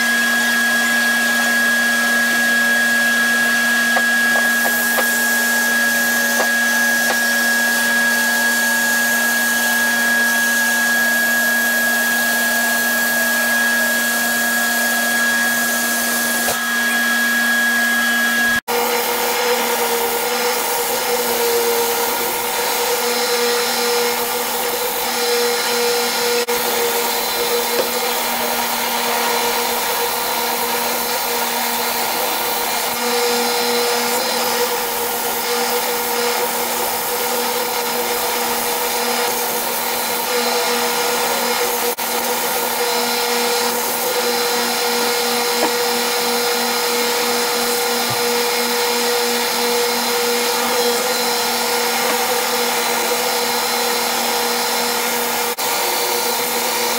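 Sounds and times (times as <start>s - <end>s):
belt sander motor hum: 0.0s - 56.9s
wood being sanded: 0.0s - 56.9s.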